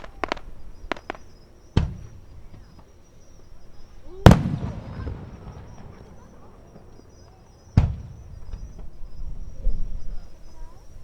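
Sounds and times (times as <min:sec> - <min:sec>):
fireworks bursting: 0:00.0 - 0:10.1
insects chirping: 0:00.0 - 0:11.0.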